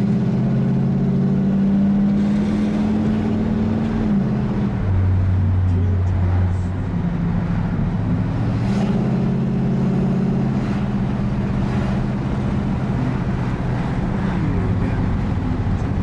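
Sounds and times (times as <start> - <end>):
car engine hum: 0.0 - 16.0
road and wind noise: 0.0 - 16.0.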